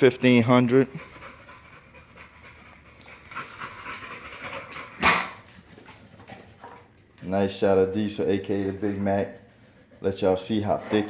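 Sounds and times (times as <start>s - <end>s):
dog panting: 0.1s - 11.0s.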